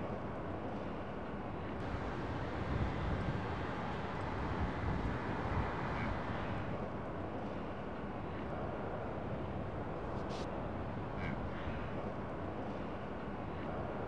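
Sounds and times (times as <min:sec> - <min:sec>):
jet engines at takeoff: 0:01.8 - 0:13.8.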